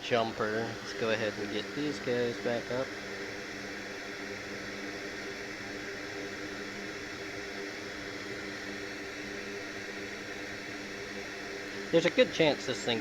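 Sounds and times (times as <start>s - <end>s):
faint low hum: 0.0s - 13.0s
fan air rushing hiss: 0.0s - 13.0s.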